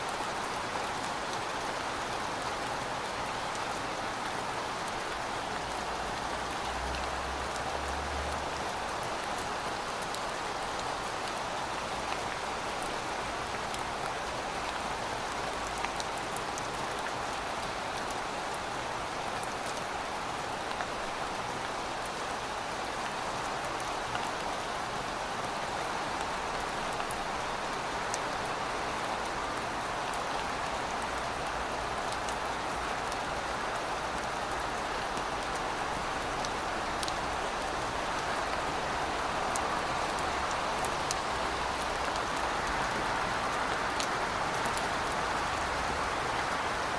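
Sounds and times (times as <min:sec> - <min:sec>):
raindrops ticking on a surface: 0:00.0 - 0:46.9
steady rain hissing: 0:00.0 - 0:46.9.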